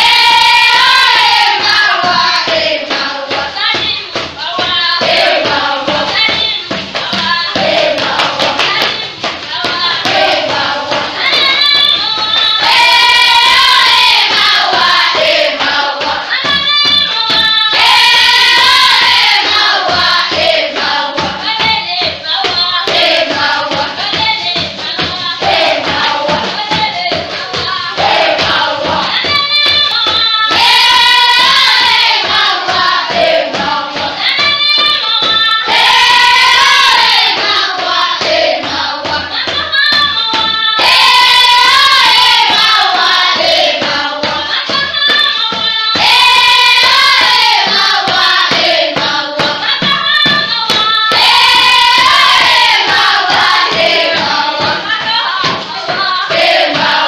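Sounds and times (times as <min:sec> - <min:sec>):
children singing together: 0:00.0 - 0:57.0.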